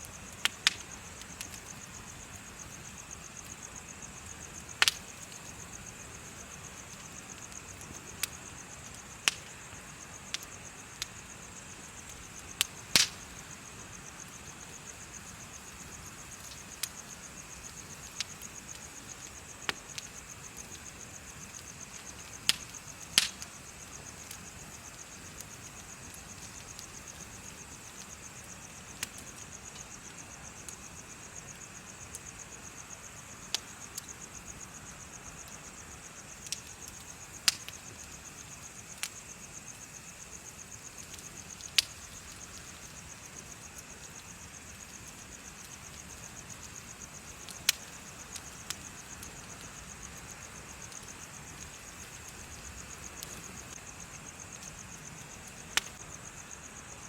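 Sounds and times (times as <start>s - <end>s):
bonfire crackling and popping: 0.0s - 57.0s
insects trilling: 0.0s - 57.0s.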